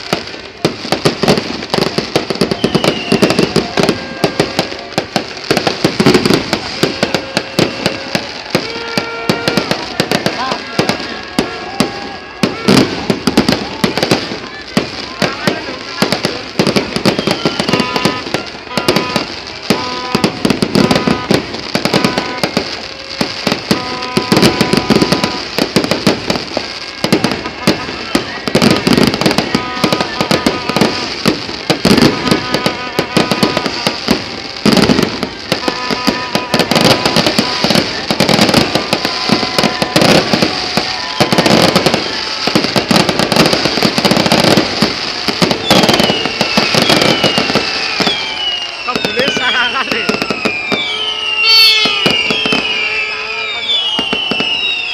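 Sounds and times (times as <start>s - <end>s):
fireworks bangs and crackles: 0.0s - 54.9s
firework whistle falling in pitch: 0.9s - 54.9s.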